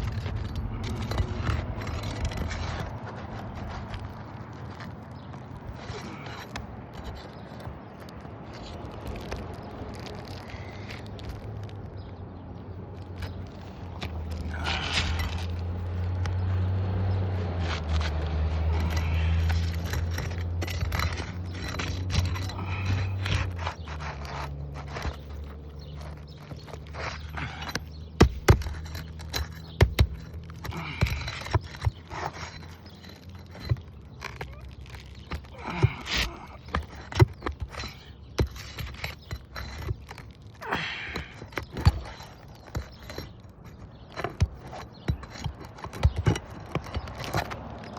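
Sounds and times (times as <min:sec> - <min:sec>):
clicks and scrapes on shingle roof: 0:00.0 - 0:47.9.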